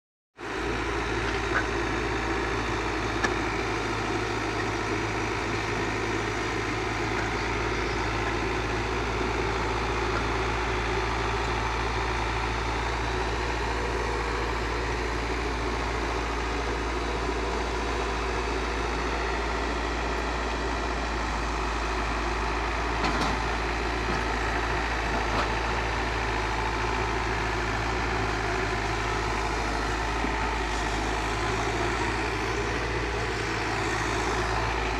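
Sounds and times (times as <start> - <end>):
diesel engine running steadily: 0.4 - 34.9.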